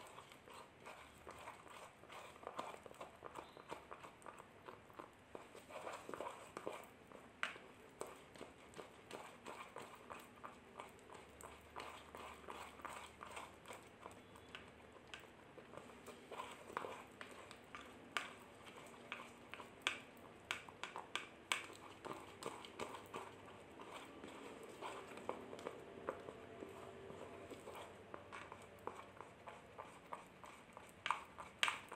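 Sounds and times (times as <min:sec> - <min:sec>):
spoon scraping plastic bowl: 0:00.0 - 0:31.9.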